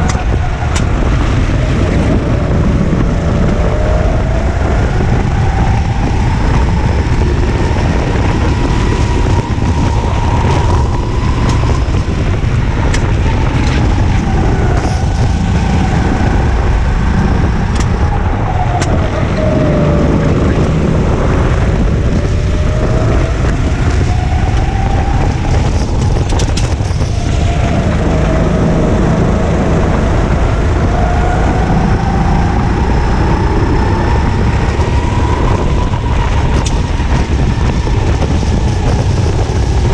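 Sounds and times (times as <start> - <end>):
chassis rumble: 0.0 - 39.9
kart engine revving: 0.0 - 39.9
wind noise: 0.0 - 39.9.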